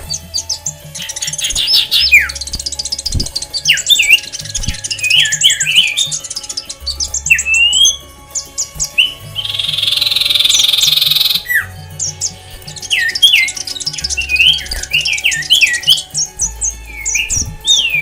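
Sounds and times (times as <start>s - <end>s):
birds chirping and whistling: 0.0s - 18.0s.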